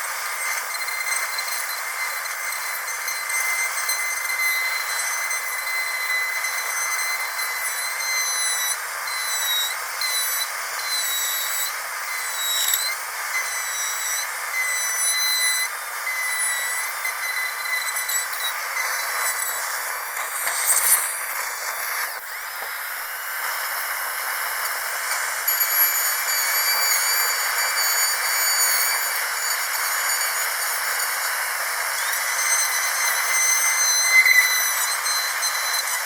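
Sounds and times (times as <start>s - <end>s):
dentist's drill whining: 0.0s - 36.0s
hiss: 0.0s - 36.0s.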